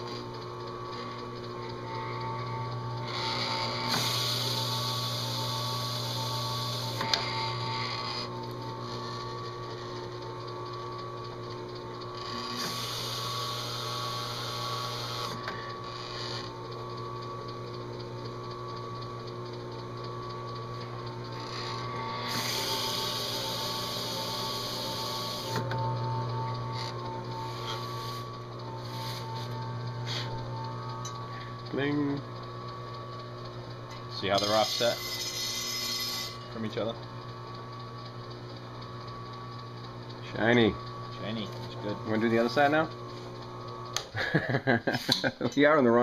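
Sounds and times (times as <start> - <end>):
machine spindle running: 0.0 - 46.0.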